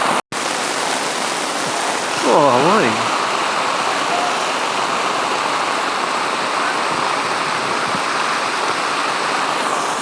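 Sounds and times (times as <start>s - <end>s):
heavy rain: 0.0s - 10.0s
rushing water: 0.0s - 10.0s.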